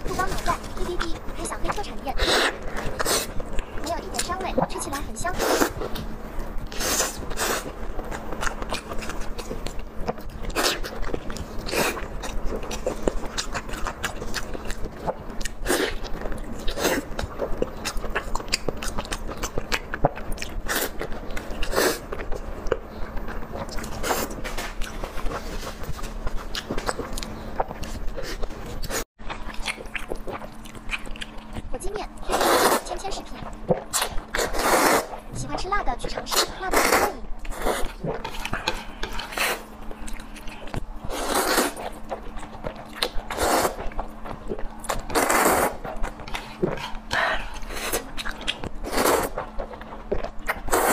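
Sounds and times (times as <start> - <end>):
wet biting and chewing: 5.4 - 35.3, 36.1 - 50.9.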